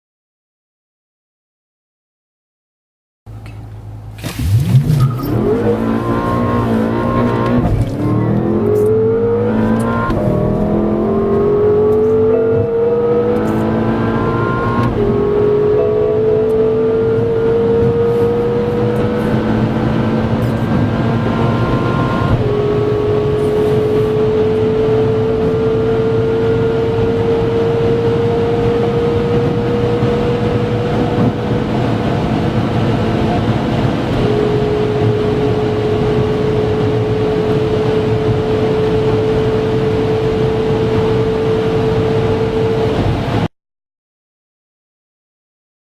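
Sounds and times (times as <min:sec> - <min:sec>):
car engine at full throttle: 0:03.3 - 0:43.5.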